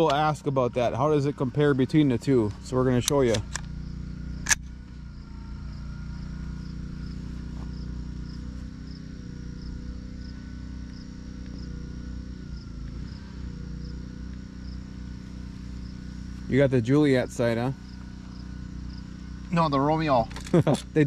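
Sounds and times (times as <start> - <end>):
crickets chirping: 0.0 - 21.0
steady low hum: 0.0 - 21.0.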